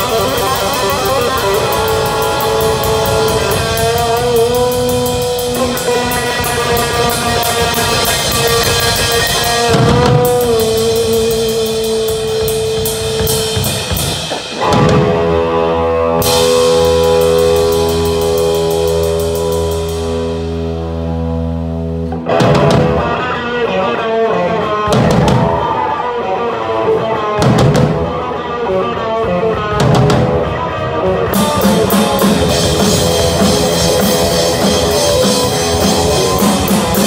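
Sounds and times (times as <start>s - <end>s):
drums and cymbals: 0.0s - 23.8s, 24.5s - 26.5s, 27.3s - 37.0s
electric guitar lead: 0.0s - 37.0s.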